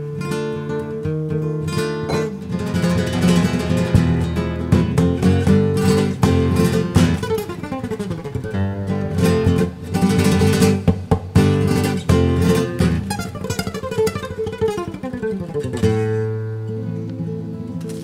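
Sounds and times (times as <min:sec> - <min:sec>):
strummed instrumental music: 0:00.0 - 0:18.0.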